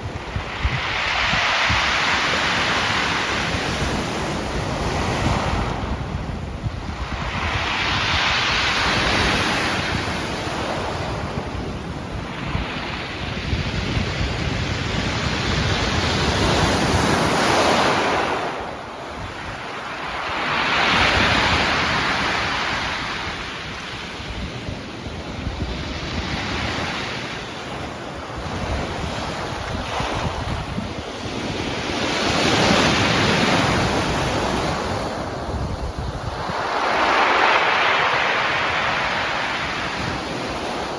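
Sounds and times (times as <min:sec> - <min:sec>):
sea waves breaking: 0:00.0 - 0:40.9
wind buffeting microphone: 0:00.0 - 0:40.9.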